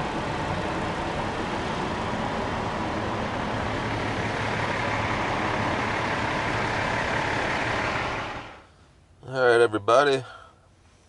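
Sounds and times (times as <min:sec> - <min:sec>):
truck engine droning: 0:00.0 - 0:08.9.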